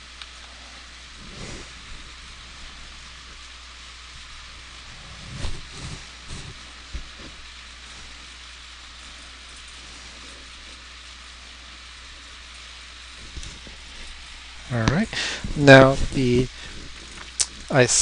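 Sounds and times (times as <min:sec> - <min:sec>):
microphone hiss and hum: 0:00.0 - 0:18.0.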